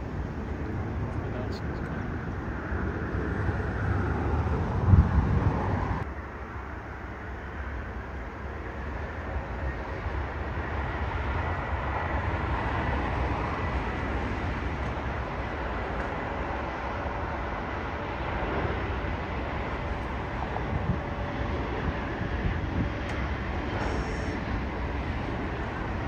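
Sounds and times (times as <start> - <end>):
jet engines rumbling with whine: 0.0 - 26.0.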